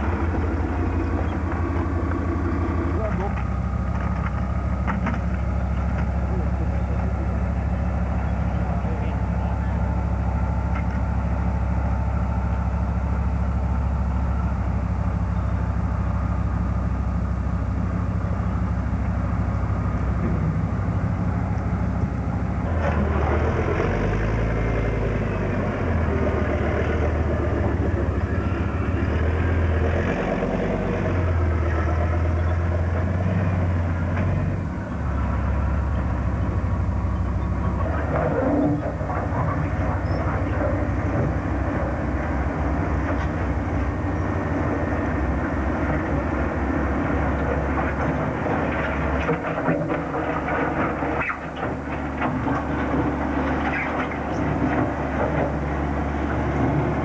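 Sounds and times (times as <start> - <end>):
heavy engine running: 0.0 - 57.0.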